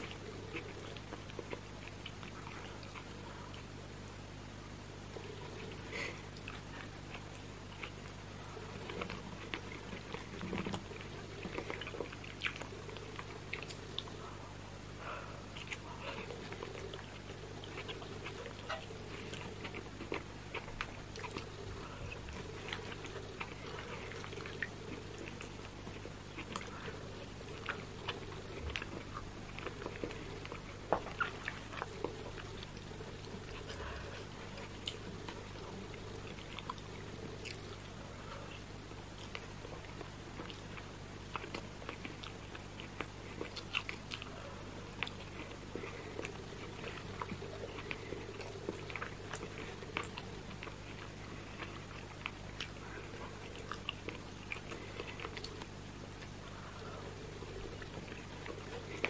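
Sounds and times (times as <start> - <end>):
chewing and wet mouth sounds: 0.0 - 4.0, 5.0 - 59.0
steady low hum: 0.0 - 59.0.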